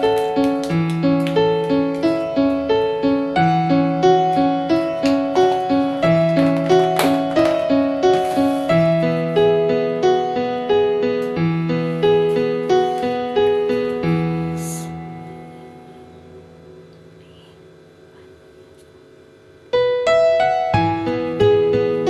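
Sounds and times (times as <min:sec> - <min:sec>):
instrumental music: 0:00.0 - 0:17.6, 0:19.7 - 0:22.0.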